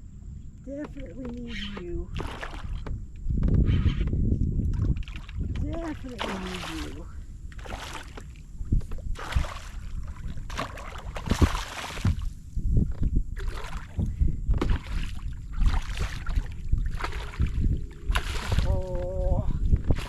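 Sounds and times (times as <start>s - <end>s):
steady low rumble: 0.0s - 20.0s
water splashing around kayak: 0.7s - 3.0s, 4.7s - 20.0s.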